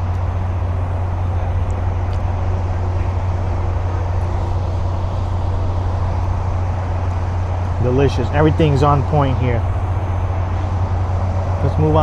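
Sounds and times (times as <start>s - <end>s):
deep hum: 0.0s - 12.0s
vehicle rumble: 0.0s - 12.0s.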